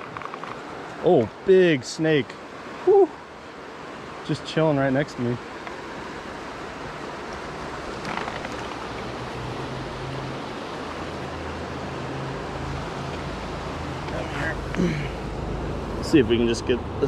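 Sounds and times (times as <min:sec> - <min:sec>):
stream and waterfall rushing: 0:00.0 - 0:17.0.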